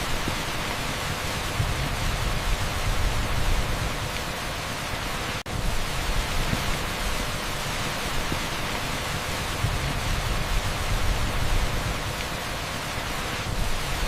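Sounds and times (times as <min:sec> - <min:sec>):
torrential rain on a street: 0:00.0 - 0:14.0.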